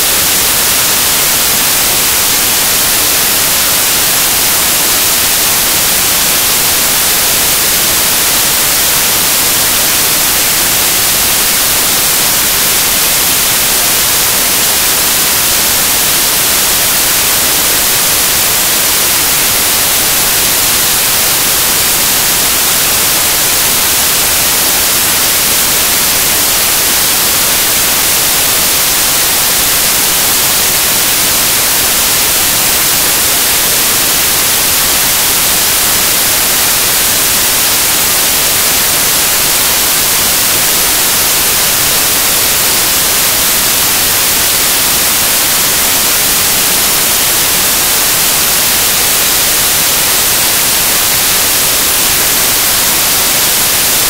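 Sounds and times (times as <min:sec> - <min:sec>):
static hiss: 0:00.0 - 0:54.0.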